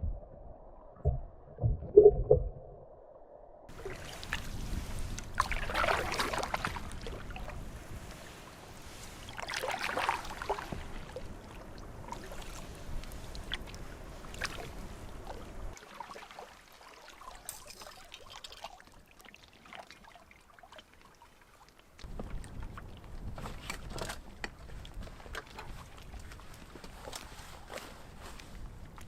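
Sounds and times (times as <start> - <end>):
canoe paddle splashing: 3.7 - 28.1.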